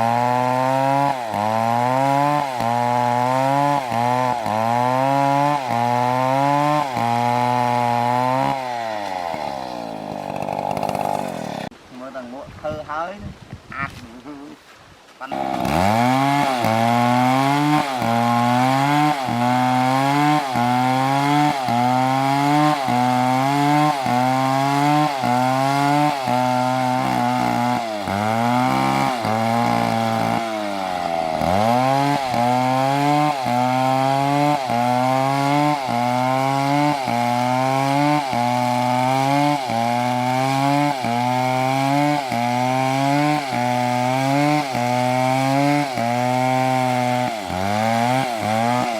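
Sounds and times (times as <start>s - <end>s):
chainsaw cutting wood: 0.0s - 11.8s, 15.2s - 48.9s.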